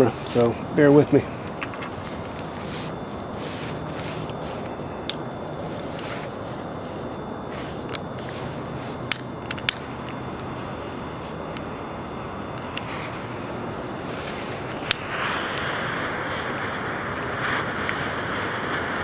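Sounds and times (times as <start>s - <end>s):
fire popping: 0.0s - 19.0s
loud hiss: 0.0s - 19.0s
wood fire burning: 0.0s - 19.0s.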